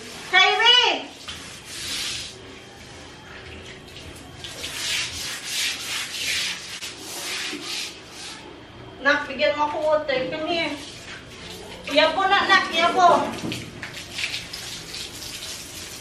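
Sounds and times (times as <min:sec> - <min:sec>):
broom scrubbing wet tiled floor: 0:00.0 - 0:08.5, 0:09.8 - 0:16.0.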